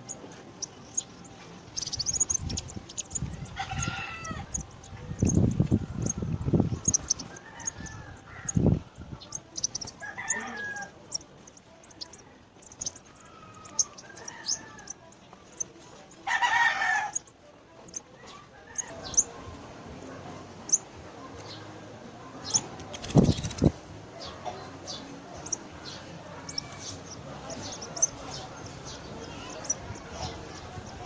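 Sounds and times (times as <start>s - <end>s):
chicks peeping: 0.0s - 19.5s, 22.4s - 31.0s.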